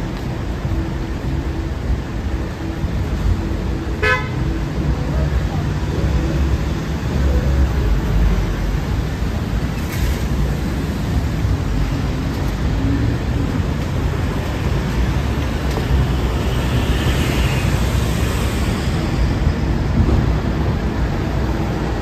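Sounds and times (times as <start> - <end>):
bus passing close: 0.0 - 22.0
city street traffic rumble: 0.0 - 22.0.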